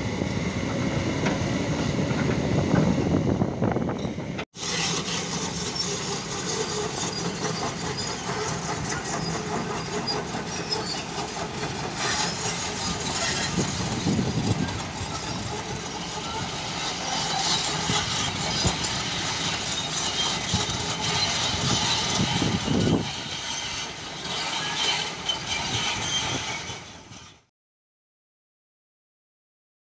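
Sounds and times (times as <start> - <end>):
heavy diesel machinery running: 0.0 - 27.5.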